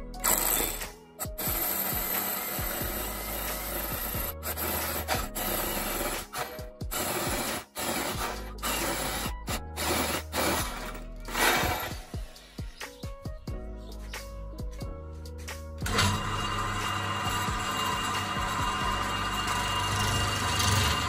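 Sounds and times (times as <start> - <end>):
background music with bass: 0.0 - 21.0
electric drill boring into wood: 0.2 - 12.1, 15.8 - 21.0.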